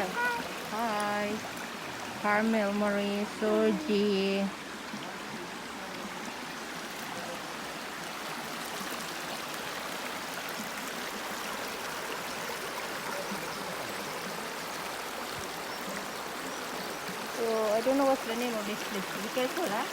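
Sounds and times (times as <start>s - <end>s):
stream water flowing: 0.0s - 19.9s.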